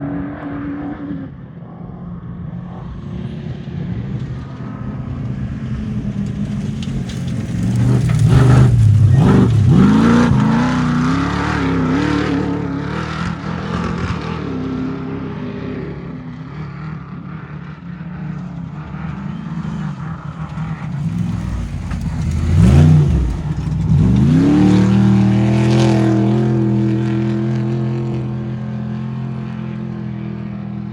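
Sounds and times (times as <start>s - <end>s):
race truck engines revving: 0.0s - 30.9s.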